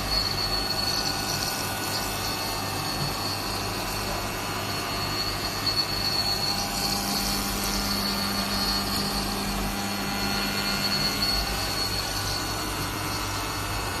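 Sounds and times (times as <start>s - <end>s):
milling machine whine and hum: 0.0s - 14.0s.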